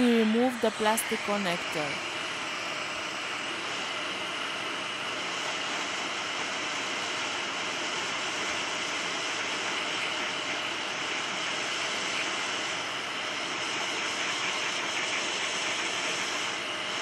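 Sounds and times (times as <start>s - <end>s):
hot air station hissing: 0.0s - 17.0s.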